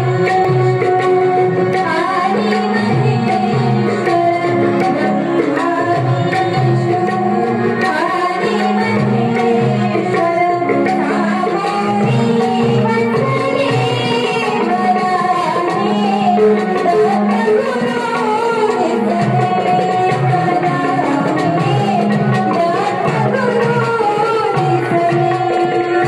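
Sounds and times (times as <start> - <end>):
harmonium and keyboard notes: 0.0 - 26.0
tabla rhythm: 0.0 - 26.0.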